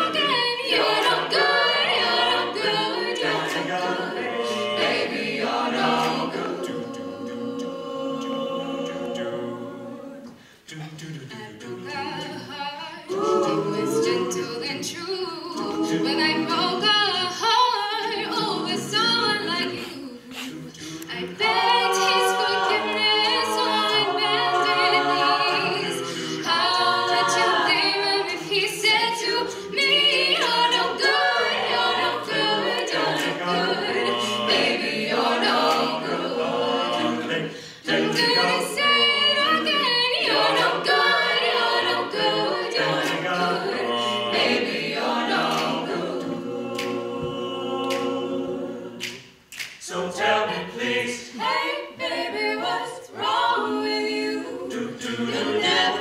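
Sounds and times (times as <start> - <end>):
sung backing harmonies: 0.0 - 56.0.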